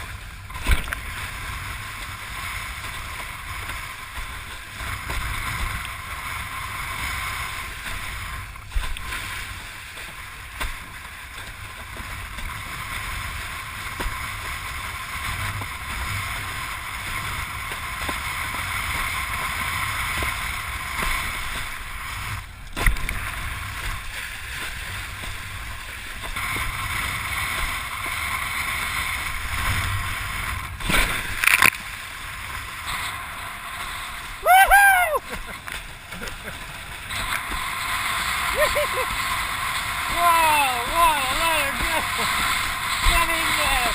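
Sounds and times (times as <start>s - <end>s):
wind and water rushing: 0.0s - 43.9s.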